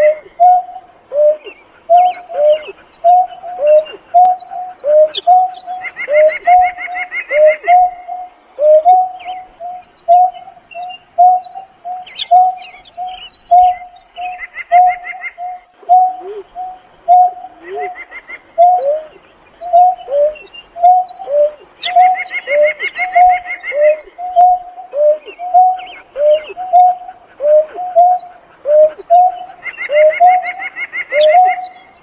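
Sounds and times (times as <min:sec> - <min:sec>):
bird hooting: 0:00.0 - 0:32.0.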